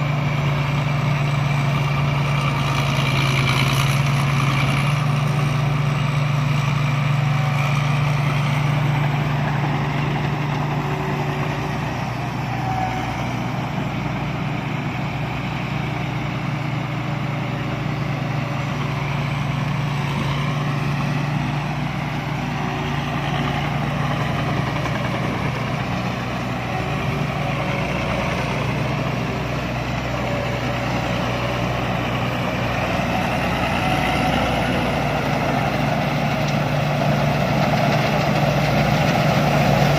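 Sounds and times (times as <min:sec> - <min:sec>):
combine harvester engine hum: 0:00.0 - 0:39.9
machinery noise: 0:00.0 - 0:39.9.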